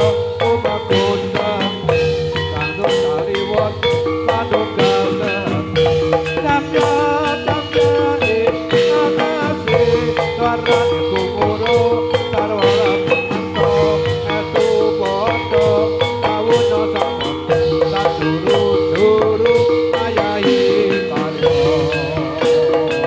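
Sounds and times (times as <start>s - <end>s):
gamelan music: 0.0s - 23.0s.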